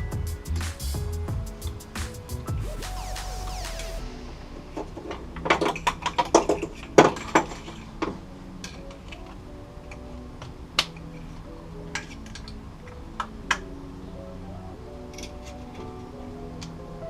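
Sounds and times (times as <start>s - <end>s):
faint music: 0.0s - 17.0s.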